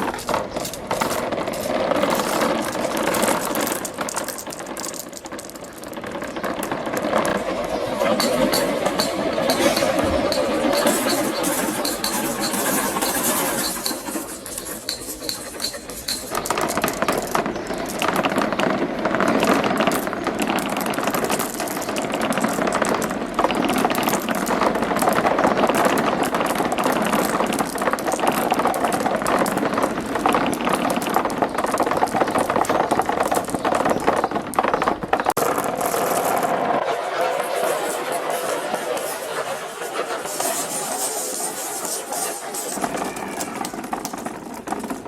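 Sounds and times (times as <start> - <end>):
marbles clattering down tracks: 0.0 - 45.0.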